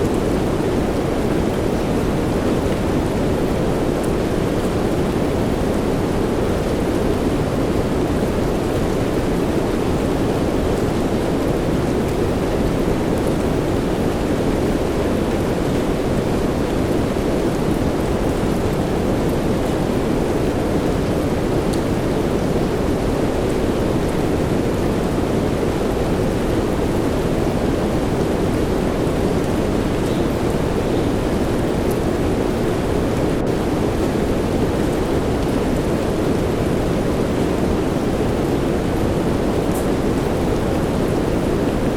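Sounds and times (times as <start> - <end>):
soft rain: 0.0 - 41.9.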